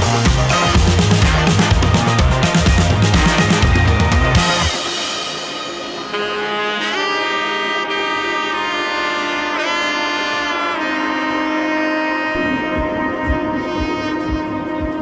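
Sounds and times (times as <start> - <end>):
sliding held notes over chords: 0.0 - 15.0.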